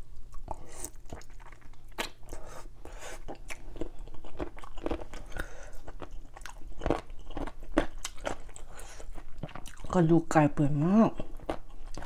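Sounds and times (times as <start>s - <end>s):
chewing chicken: 0.2s - 2.5s, 3.2s - 10.0s, 11.2s - 12.0s.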